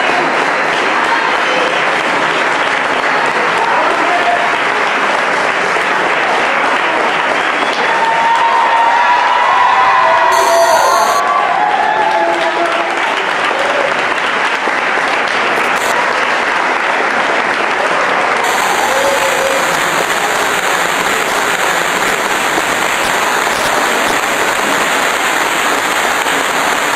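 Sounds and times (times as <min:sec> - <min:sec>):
audience applauding: 0:00.0 - 0:26.9.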